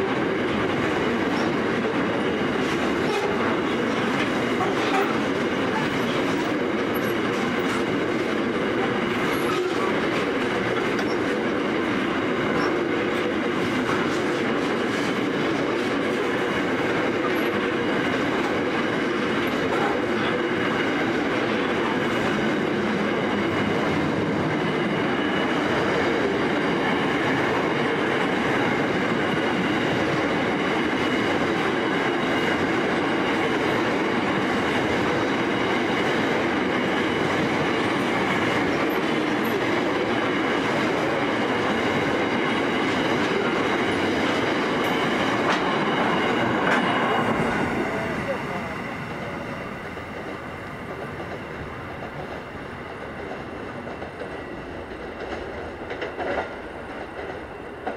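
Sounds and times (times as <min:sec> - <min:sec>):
freight train wheels on rails: 0:00.0 - 0:57.9.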